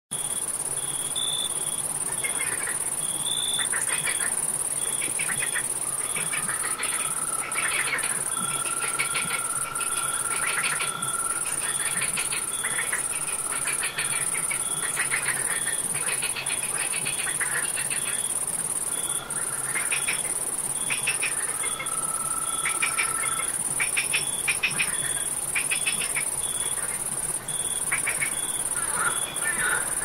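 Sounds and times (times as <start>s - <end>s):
cricket trill: 0.1s - 30.0s
rasping frog calls: 2.1s - 30.0s.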